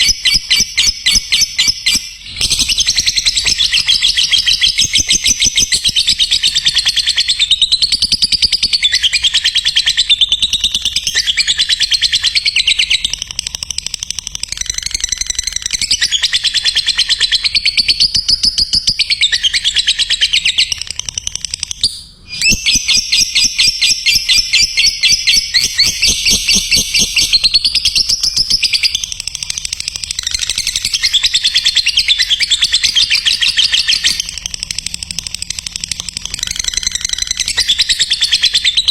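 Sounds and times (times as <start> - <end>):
lovebird chattering song: 0.0 - 38.9.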